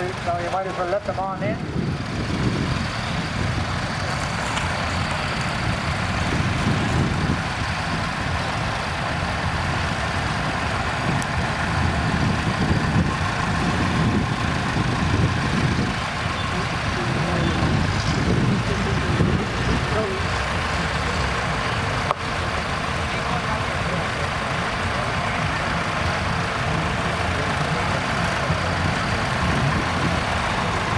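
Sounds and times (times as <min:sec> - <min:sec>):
tractor engines running: 0:00.0 - 0:30.9.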